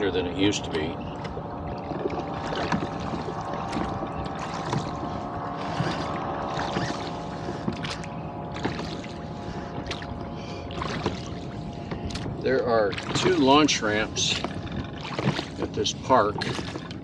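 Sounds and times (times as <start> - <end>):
water slapping against boat hull: 0.0 - 17.0.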